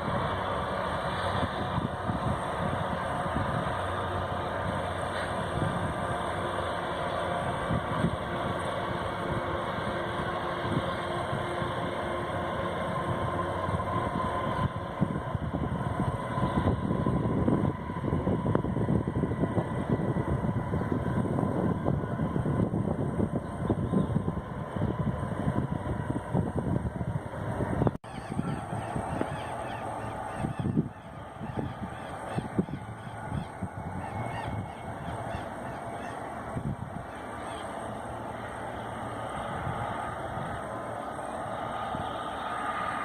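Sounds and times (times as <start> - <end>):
freight train rumbling on rails: 0.0 - 43.0.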